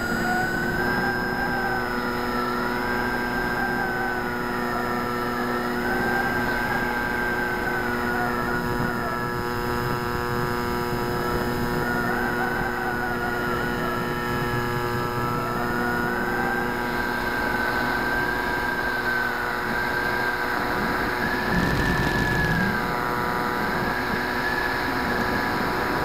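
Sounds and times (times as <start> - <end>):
electric motor and propeller whining: 0.0 - 26.0
rush of wind: 0.0 - 26.0.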